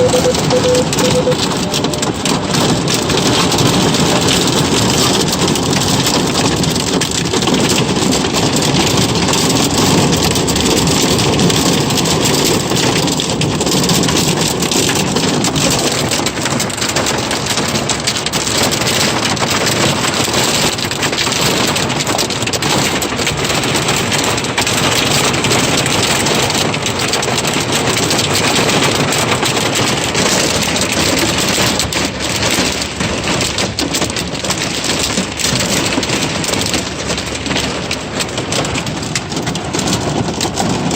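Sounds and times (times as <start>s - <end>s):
heavy rain pouring: 0.0s - 40.9s
raindrops ticking: 0.0s - 40.9s.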